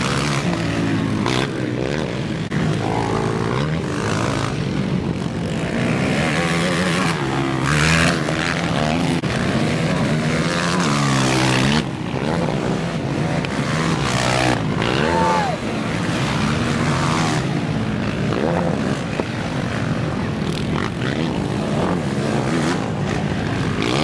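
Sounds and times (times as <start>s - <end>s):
quad bike engines revving: 0.0s - 24.0s.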